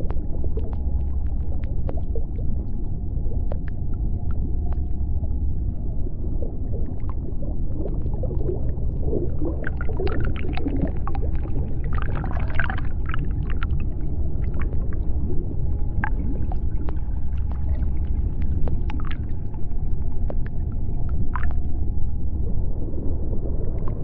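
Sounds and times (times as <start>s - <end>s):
low underwater rumble: 0.0s - 24.0s.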